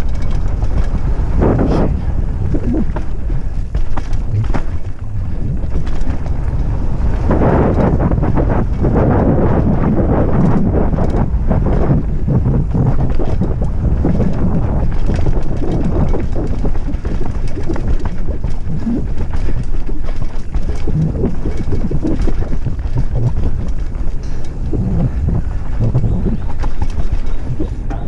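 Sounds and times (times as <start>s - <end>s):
bike rattling and knocking: 0.0s - 28.0s
tyre rumble: 0.0s - 28.0s
wind buffeting microphone: 0.0s - 28.0s.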